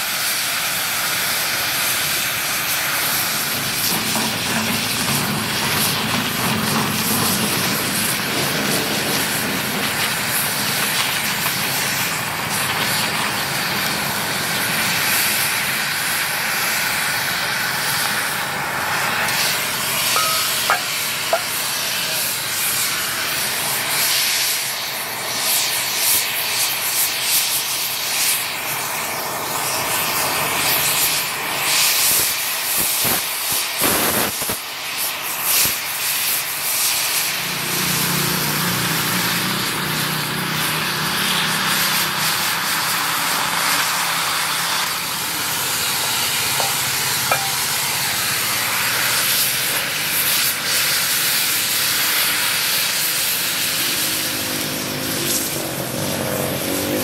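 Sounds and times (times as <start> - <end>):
cutting torch hissing: 0.0 - 57.0.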